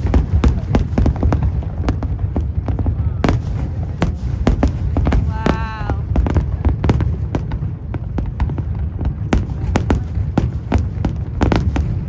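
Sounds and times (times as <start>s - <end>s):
fireworks bangs: 0.0s - 12.0s
low steady rumble: 0.0s - 12.0s.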